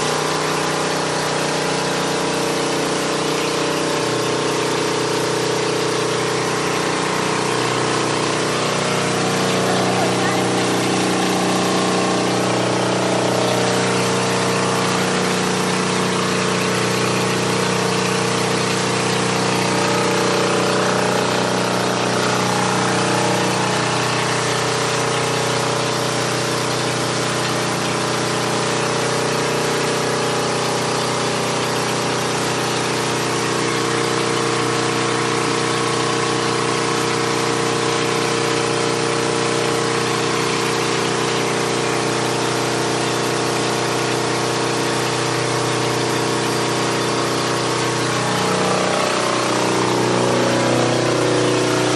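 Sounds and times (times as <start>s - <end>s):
pressure washer running: 0.0s - 51.9s.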